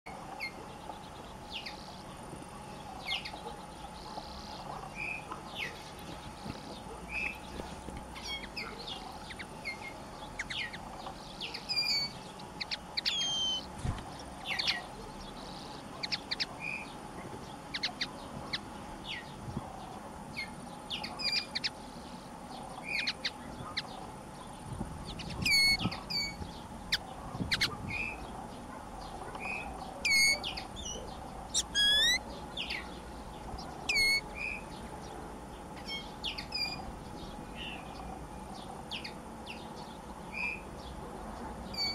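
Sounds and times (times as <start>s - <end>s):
linnet twittering song: 0.1s - 41.9s.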